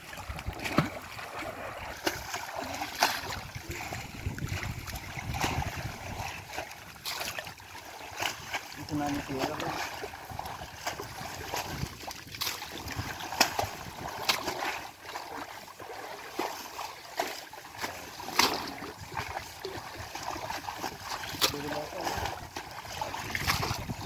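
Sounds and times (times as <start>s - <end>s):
sharp splashes: 0.0s - 24.0s
water sloshing and splashing: 0.0s - 24.0s.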